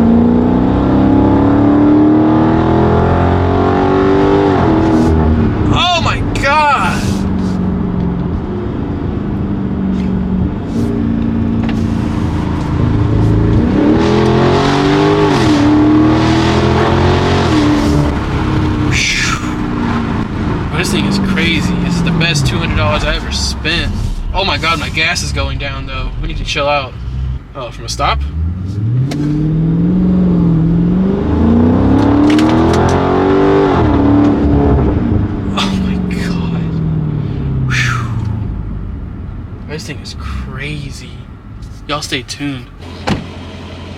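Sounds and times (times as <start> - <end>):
car exhaust drone: 0.0 - 43.9.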